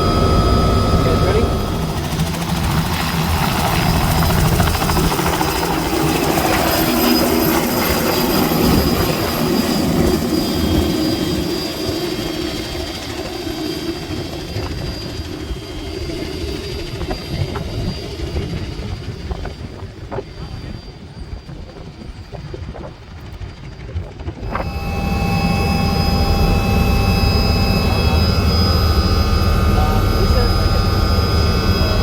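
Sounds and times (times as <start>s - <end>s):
helicopter engine and rotors: 0.0s - 32.0s.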